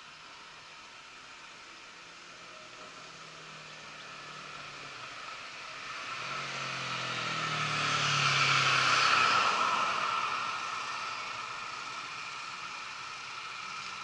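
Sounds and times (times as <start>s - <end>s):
car passing: 2.5s - 14.0s.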